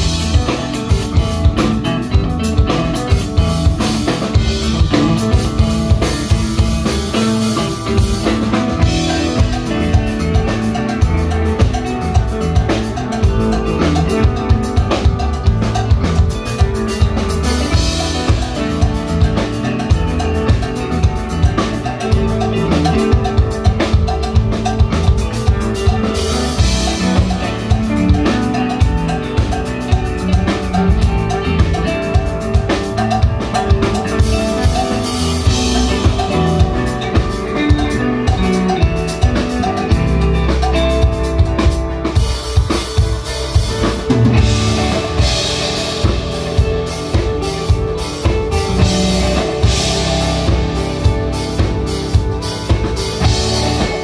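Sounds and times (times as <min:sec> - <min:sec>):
instrumental rock band playing: 0:00.0 - 0:54.0.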